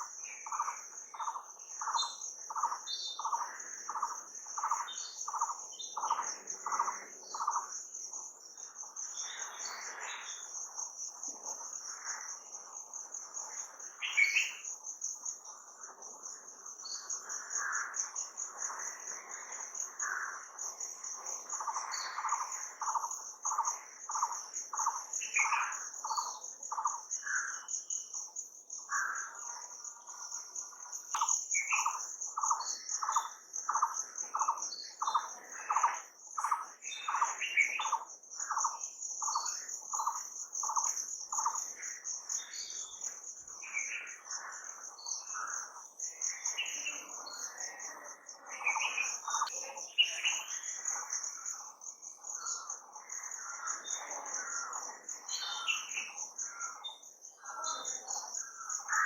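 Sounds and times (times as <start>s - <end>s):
high insect trill: 0.0s - 59.0s.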